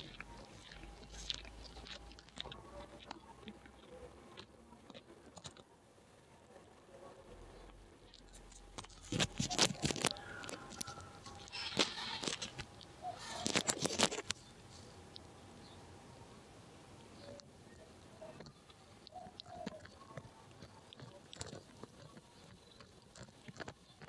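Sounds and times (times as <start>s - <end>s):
cats crunching: 0.0s - 6.2s, 7.6s - 16.0s, 17.0s - 24.0s.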